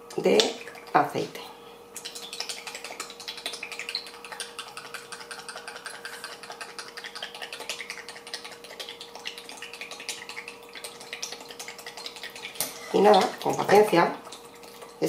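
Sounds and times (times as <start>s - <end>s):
small clicks and bubbly pops: 1.9s - 15.0s.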